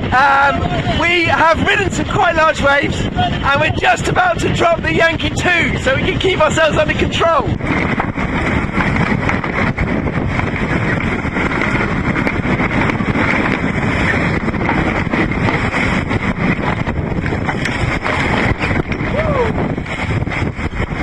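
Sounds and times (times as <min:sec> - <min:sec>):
rush of wind and sea: 0:00.0 - 0:21.0
wind buffeting microphone: 0:00.0 - 0:21.0.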